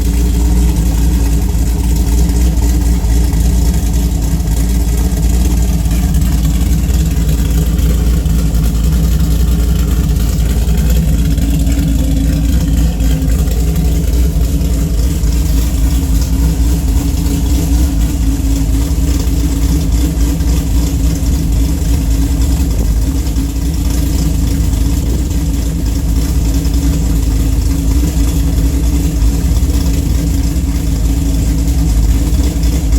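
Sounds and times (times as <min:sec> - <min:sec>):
car engine idling with misfire: 0:00.0 - 0:32.9.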